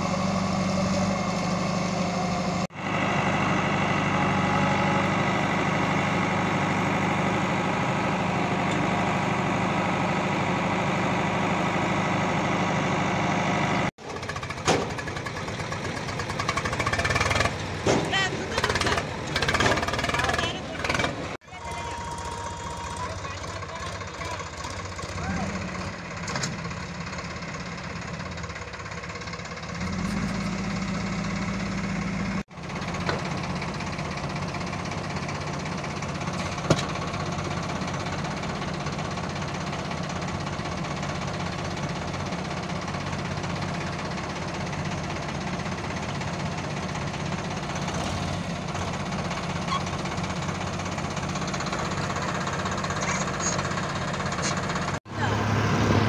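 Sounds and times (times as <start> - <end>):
diesel engines under load: 0.0 - 56.0.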